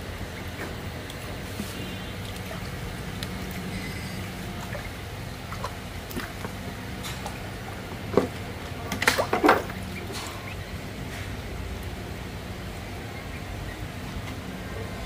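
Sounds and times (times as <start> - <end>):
low steady hum: 0.0 - 15.0
ducklings splashing in water: 0.1 - 15.0.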